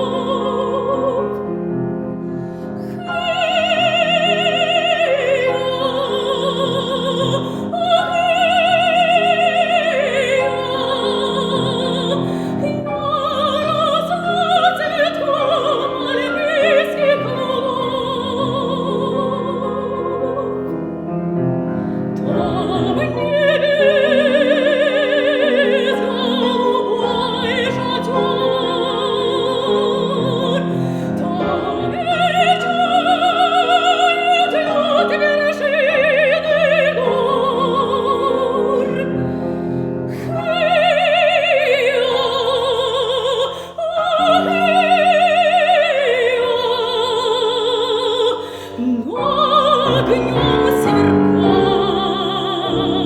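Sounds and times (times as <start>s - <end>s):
grand piano: 0.0s - 53.0s
soprano singing operatic aria: 0.0s - 53.0s.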